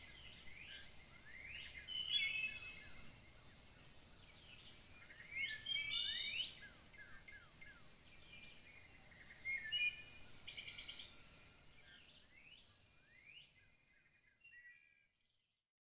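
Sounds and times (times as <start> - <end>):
songbirds singing: 0.0 - 15.6.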